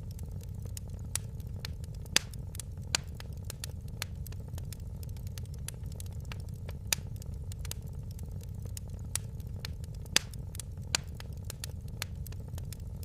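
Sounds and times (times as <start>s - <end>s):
fire pops and snaps: 0.0s - 13.0s
low rumble of burning fire: 0.0s - 13.0s.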